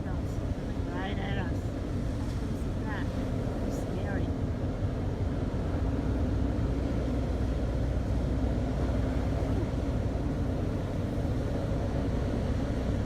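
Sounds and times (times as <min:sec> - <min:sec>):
ship engine drone: 0:00.0 - 0:13.0.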